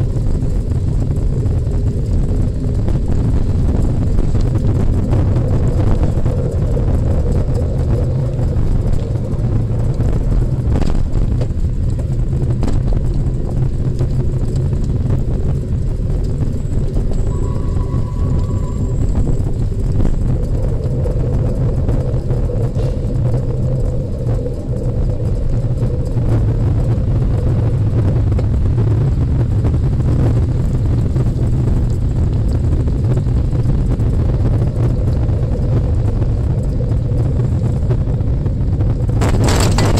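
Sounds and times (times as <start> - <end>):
faint hum: 0.0 - 39.9.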